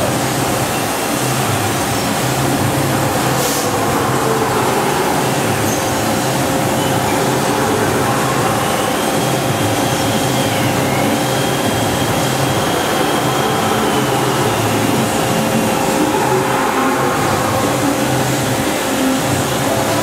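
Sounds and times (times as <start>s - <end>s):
machine hum: 0.0s - 20.0s
faint high whine: 2.2s - 20.0s.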